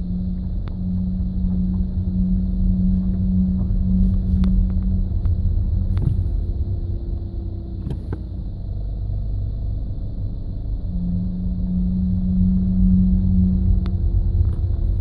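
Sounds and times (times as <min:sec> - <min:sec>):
car engine rumbling: 0:00.0 - 0:15.0
low groaning hum: 0:00.0 - 0:15.0.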